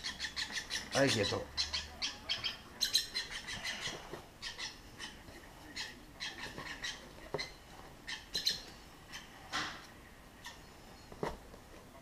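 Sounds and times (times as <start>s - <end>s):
lovebirds chirping: 0.0s - 11.5s.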